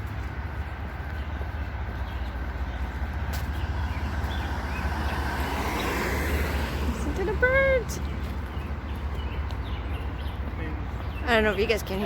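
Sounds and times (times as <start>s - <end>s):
distant road traffic: 0.0s - 12.0s
vehicle passing: 0.0s - 12.0s.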